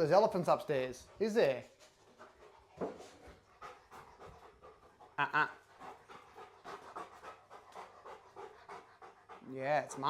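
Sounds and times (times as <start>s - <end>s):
dog panting: 0.1s - 10.0s.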